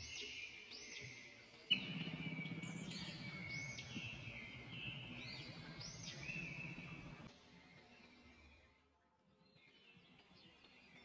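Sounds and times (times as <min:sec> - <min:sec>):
birdsong chirps: 0:00.0 - 0:11.0
low background noise: 0:00.0 - 0:11.0.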